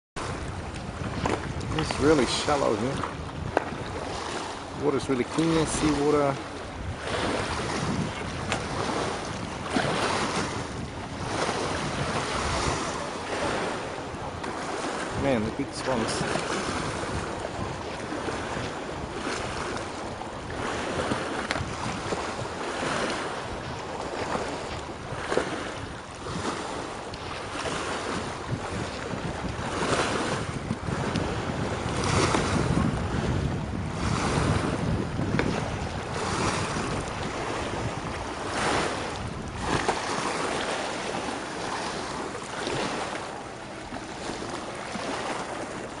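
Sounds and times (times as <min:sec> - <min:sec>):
lake waves lapping against shore: 0:00.2 - 0:46.0
wind buffeting microphone: 0:00.2 - 0:46.0.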